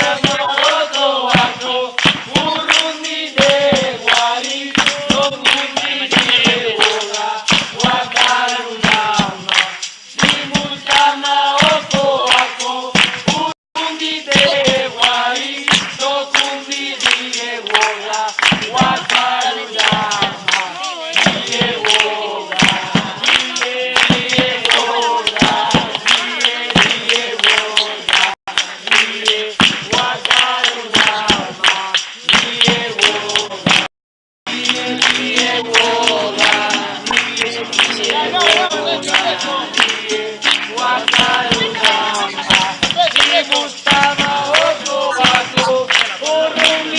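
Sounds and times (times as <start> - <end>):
hand claps: 0.0 - 13.6, 14.3 - 33.9, 34.5 - 46.9
group of voices singing: 0.0 - 33.9, 34.5 - 46.9.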